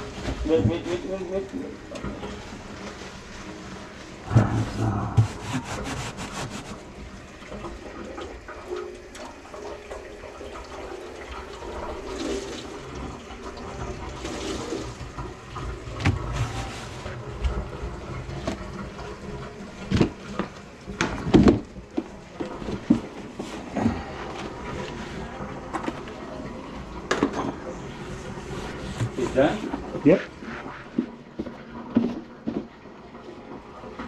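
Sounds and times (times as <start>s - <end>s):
water draining through sink: 4.1s - 34.0s.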